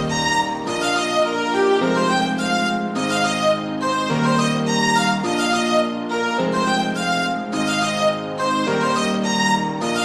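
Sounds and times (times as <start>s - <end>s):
string and keyboard accompaniment: 0.0s - 10.0s
violin melody: 0.0s - 10.0s.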